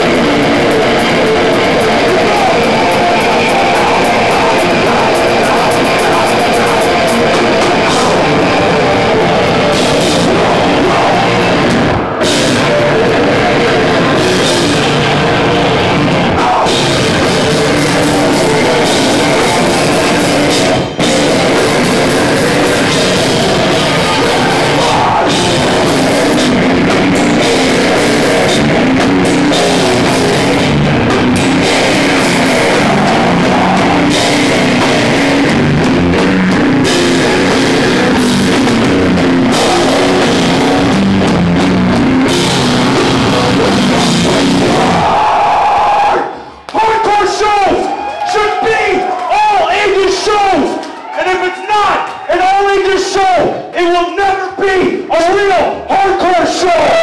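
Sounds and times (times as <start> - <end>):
loud live heavy band playing: 0.0 - 53.8.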